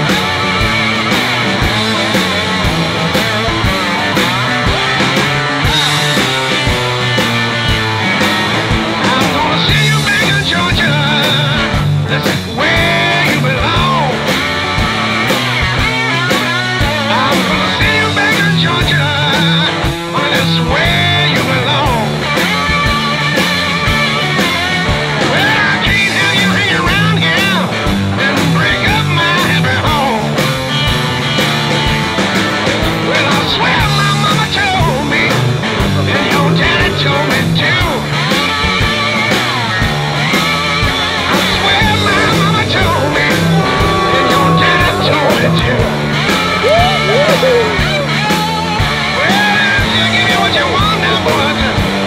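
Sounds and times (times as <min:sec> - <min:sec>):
rock music with guitar and drums: 0:00.0 - 0:52.0.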